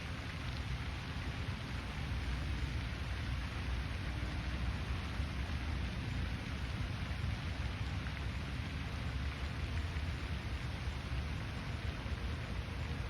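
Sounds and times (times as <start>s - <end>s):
even outdoor hiss: 0.0s - 13.0s.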